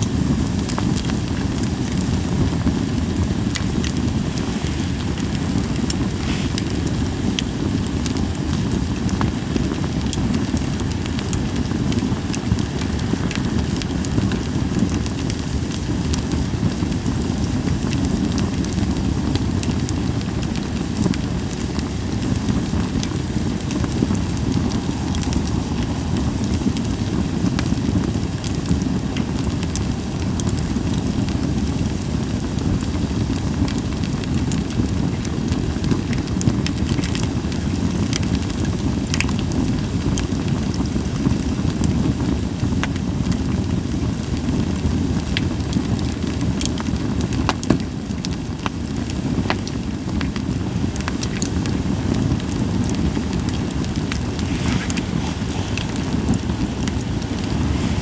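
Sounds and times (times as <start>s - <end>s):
campfire logs burning: 0.0s - 58.0s
fire pops and crackles: 0.0s - 58.0s.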